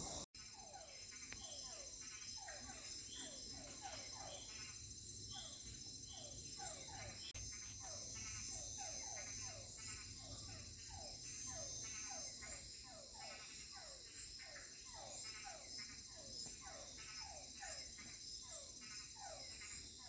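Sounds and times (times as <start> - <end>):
frogs calling: 0.0 - 20.0
high insect trill: 0.0 - 20.0.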